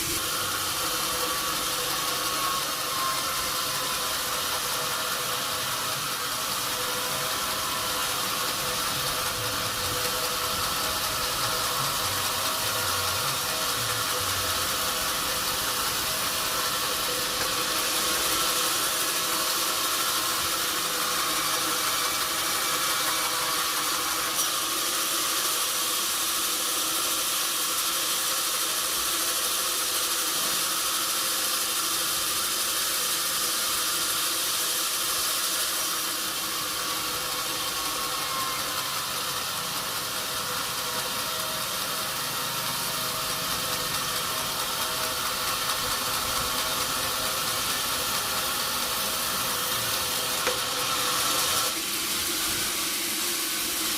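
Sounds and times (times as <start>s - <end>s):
sawmill machinery hum and hiss: 0.0s - 53.9s.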